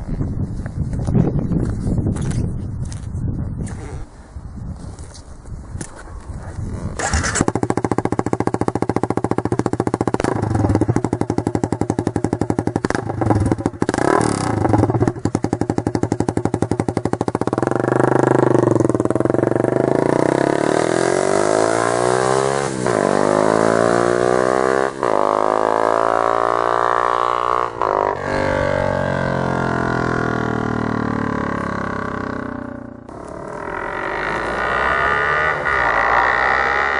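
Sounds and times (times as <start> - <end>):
motorcycle engine accelerating: 6.7 - 36.9.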